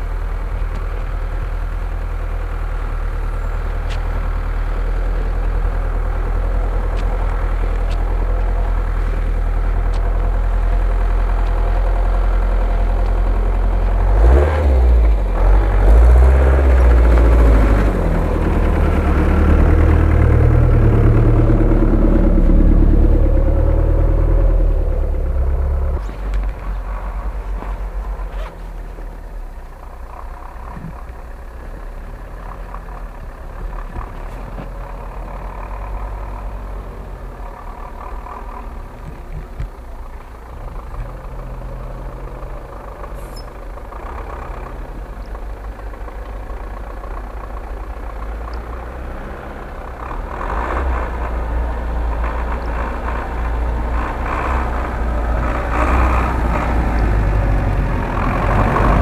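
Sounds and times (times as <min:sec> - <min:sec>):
truck engine approaching: 0:00.0 - 0:59.0.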